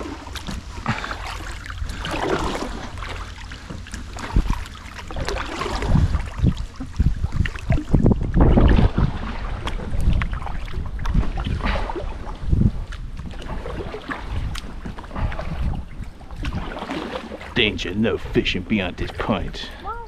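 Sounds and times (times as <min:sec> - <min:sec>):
wind buffeting microphone: 0:00.0 - 0:16.9
kayak paddles splashing in water: 0:00.0 - 0:20.0.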